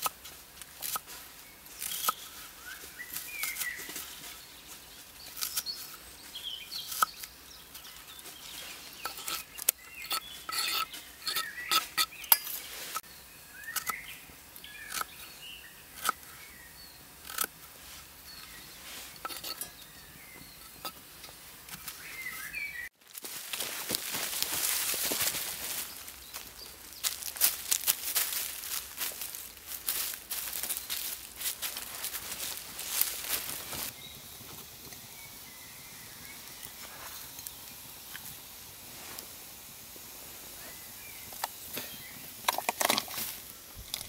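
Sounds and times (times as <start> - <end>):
steady rustling hiss: 0.0 - 44.0
birds chirping: 0.9 - 38.0, 40.0 - 43.3.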